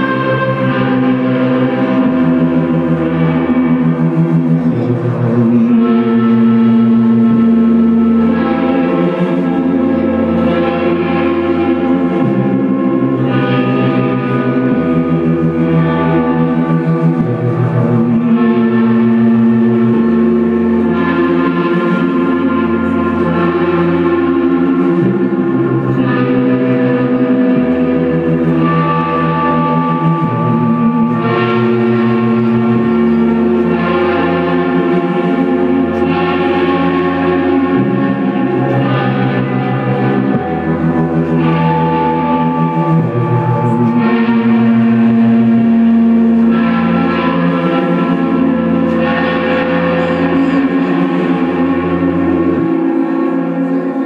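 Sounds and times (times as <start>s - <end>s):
electric guitar chords: 0.0s - 54.0s
low held notes: 0.0s - 54.0s
synthesizer chords: 0.0s - 54.0s.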